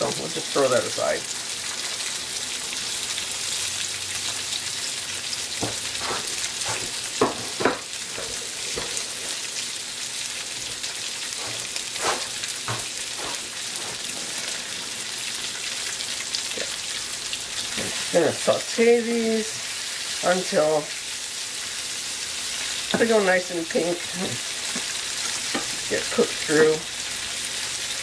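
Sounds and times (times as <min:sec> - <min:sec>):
prawns sizzling in oil: 0:00.0 - 0:28.0.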